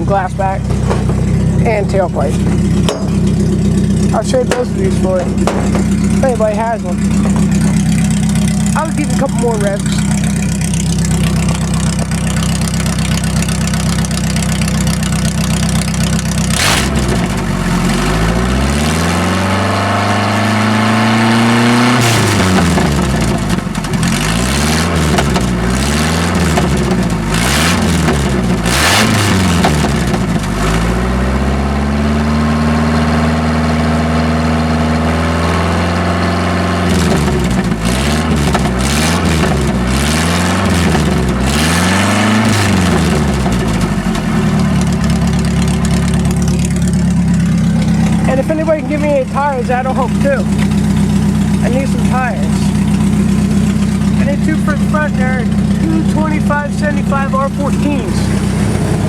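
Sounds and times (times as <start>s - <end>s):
straight-piped engine idling and revving: 0.0s - 59.0s.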